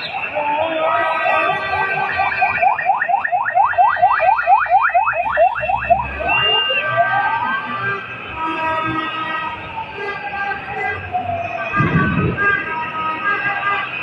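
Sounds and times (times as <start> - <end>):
ambulance siren: 0.0 - 14.0.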